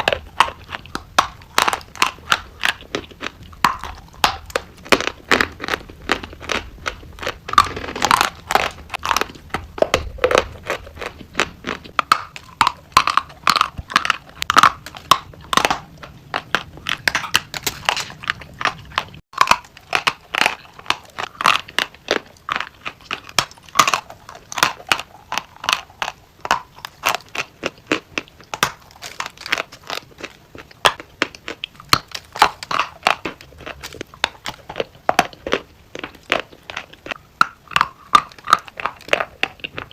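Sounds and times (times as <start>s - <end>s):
crisp crunching: 0.0s - 39.9s.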